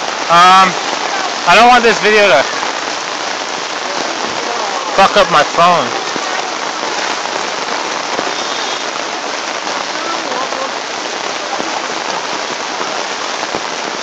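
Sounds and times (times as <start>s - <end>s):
faint voices: 0.0s - 14.0s
rain falling: 0.0s - 14.0s.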